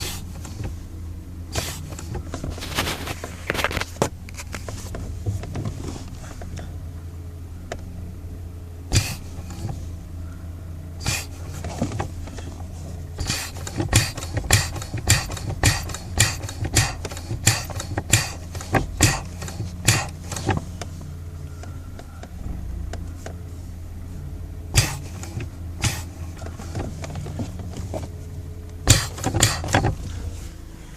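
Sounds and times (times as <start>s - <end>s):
steady low hum: 0.0s - 30.9s
sharp brake clicking: 1.5s - 6.7s, 8.9s - 10.4s, 11.0s - 23.4s, 24.7s - 30.4s.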